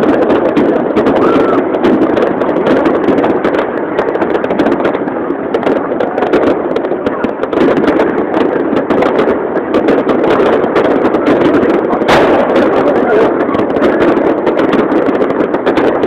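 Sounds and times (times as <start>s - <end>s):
fireworks crackling and popping: 0.0s - 16.0s
large crowd noise: 0.0s - 16.0s.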